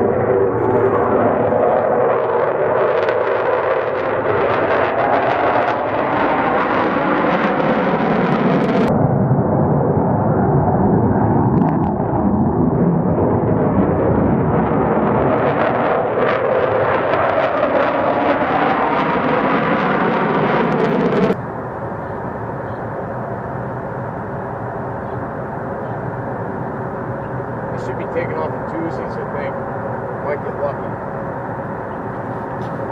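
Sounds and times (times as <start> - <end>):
distant jet engine noise: 0.0 - 32.9
jet engine in afterburner: 0.0 - 32.9.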